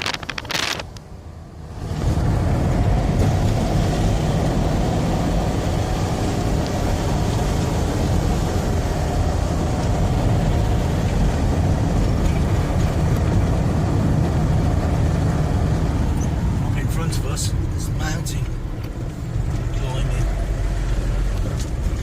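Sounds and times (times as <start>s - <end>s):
van engine and road rumble: 0.0s - 22.0s.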